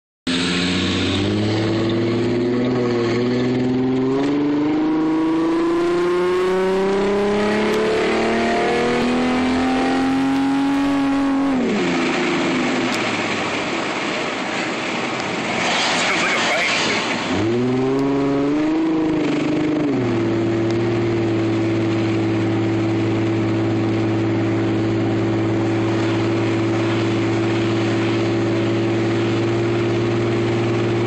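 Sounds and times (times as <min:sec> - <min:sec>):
car engine accelerating: 0:00.3 - 0:31.0
road and wind hiss: 0:00.3 - 0:31.0.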